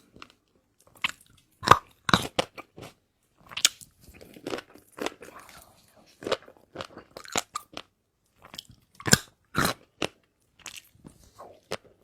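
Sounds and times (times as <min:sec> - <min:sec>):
chewing and crunching food: 0:00.0 - 0:12.0.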